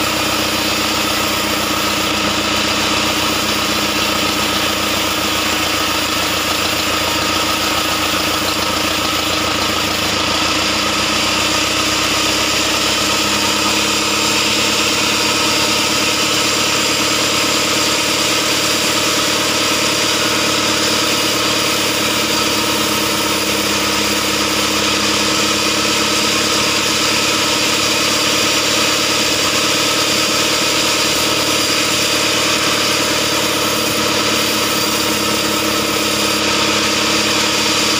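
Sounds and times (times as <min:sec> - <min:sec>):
saw blade hissing through wood: 0:00.0 - 0:37.9
sawmill engine running: 0:00.0 - 0:37.9.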